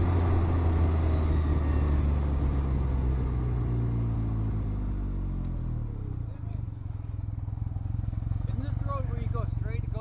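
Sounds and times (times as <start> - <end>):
engine low hum: 0.0 - 10.0.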